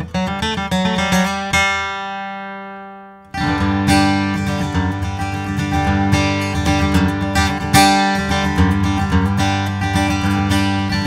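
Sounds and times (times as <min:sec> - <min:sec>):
acoustic guitar fingerpicked and strummed: 0:00.0 - 0:11.0.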